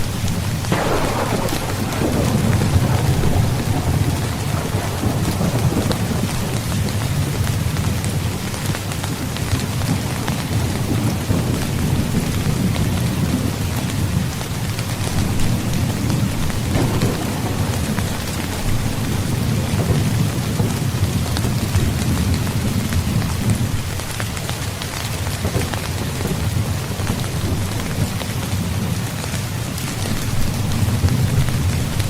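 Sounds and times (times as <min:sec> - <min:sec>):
low rolling thunder: 0:00.0 - 0:24.1, 0:25.2 - 0:32.0
heavy rain falling: 0:00.0 - 0:32.0.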